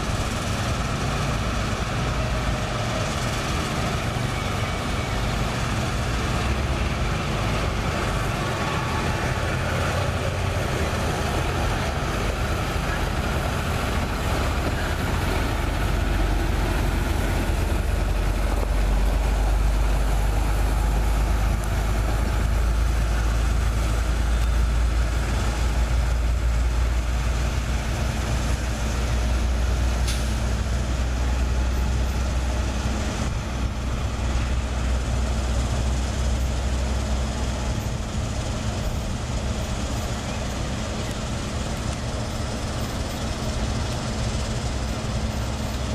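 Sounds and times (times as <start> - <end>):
truck engine rumbling: 0.0 - 45.9.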